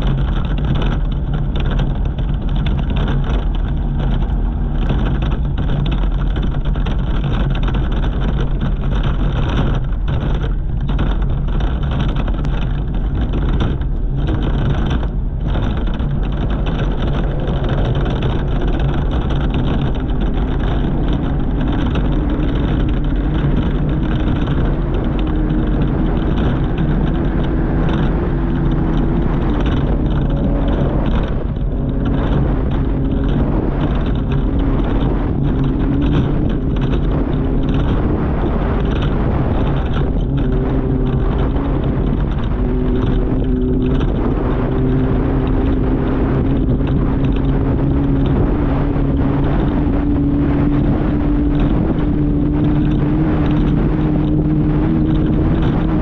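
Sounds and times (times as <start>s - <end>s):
buggy engine running hard: 0.0s - 56.0s
dirt noise: 0.0s - 56.0s
wind noise: 0.0s - 56.0s.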